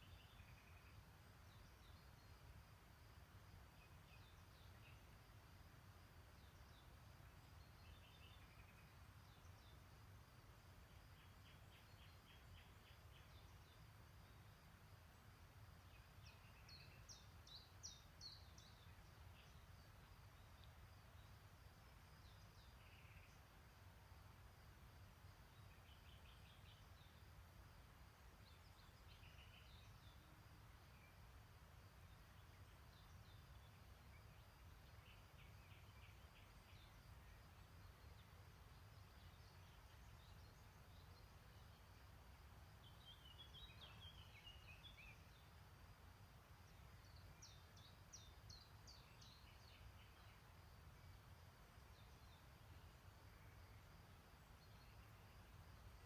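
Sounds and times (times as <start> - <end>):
songbirds twittering: 0.0 - 56.0.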